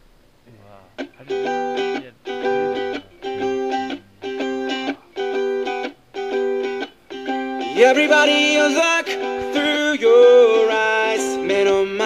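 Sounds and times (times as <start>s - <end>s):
guitar strumming chords: 0.9s - 12.0s.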